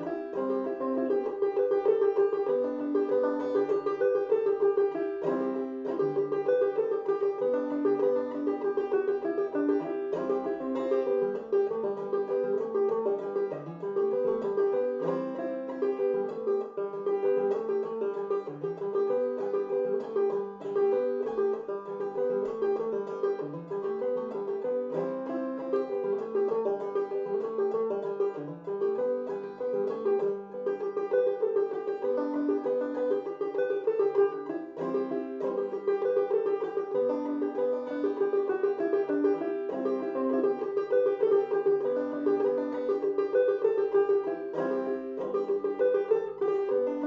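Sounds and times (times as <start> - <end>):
banjo playing: 0.0 - 47.0.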